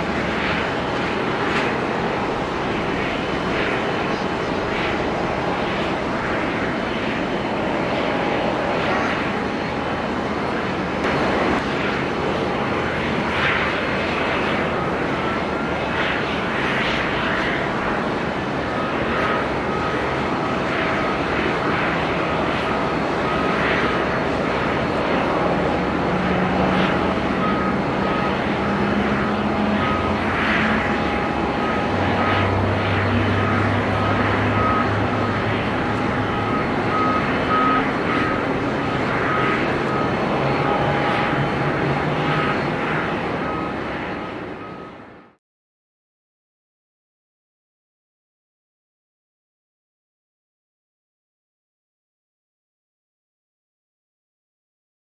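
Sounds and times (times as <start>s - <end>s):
jet engine noise: 0.0s - 45.4s.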